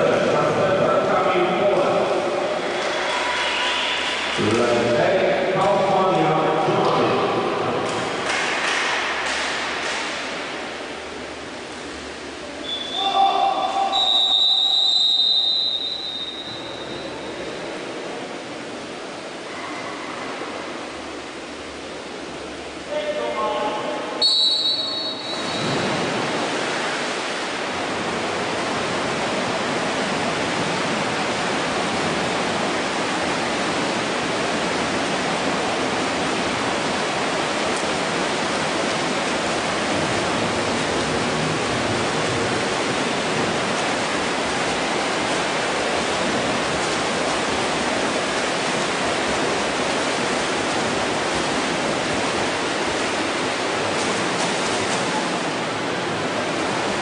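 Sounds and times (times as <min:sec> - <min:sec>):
swimmers splashing: 0:00.0 - 0:57.0.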